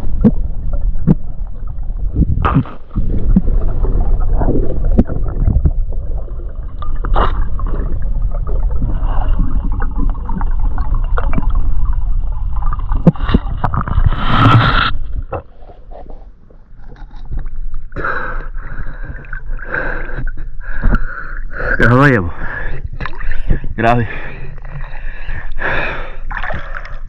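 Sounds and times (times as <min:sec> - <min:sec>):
water sloshing and gurgling: 0:00.0 - 0:27.0.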